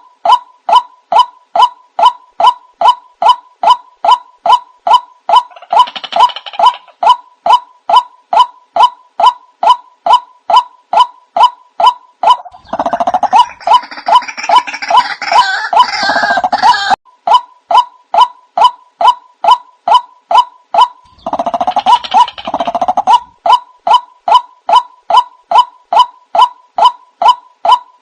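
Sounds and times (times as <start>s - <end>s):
chorus of bird calls: 0.0s - 28.0s.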